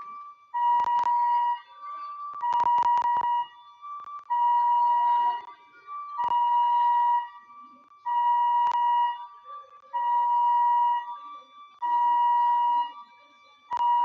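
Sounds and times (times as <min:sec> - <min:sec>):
electronic alarm beeping: 0:00.0 - 0:13.0, 0:13.7 - 0:14.0.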